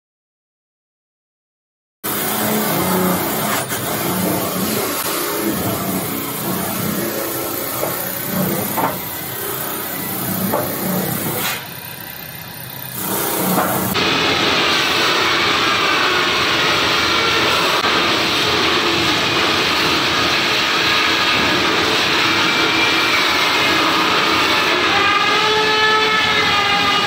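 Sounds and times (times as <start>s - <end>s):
polishing machinery rushing noise: 2.1s - 27.0s.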